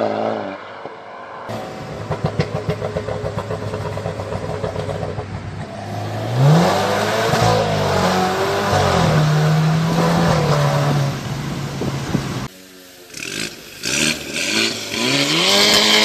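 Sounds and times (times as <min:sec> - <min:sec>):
car engine revving: 0:00.0 - 0:12.5, 0:13.1 - 0:16.0.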